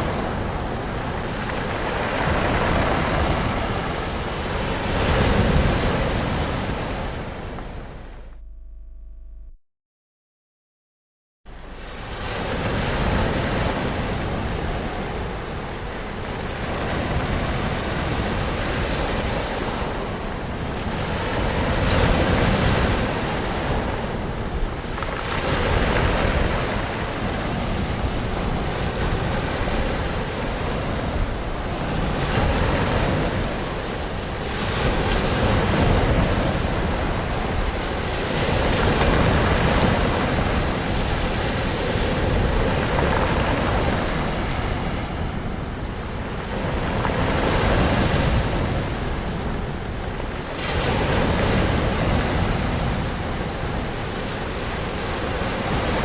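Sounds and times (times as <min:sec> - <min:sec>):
ocean waves breaking: 0:00.0 - 0:08.2, 0:11.5 - 0:56.0.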